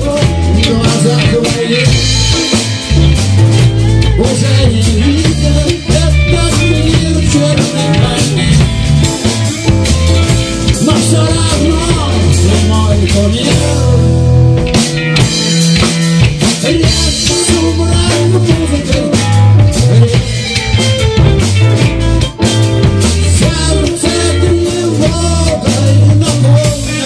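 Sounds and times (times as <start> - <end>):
person singing: 0.0 - 14.3, 16.4 - 21.1, 23.0 - 27.0
band playing a song: 0.0 - 27.0.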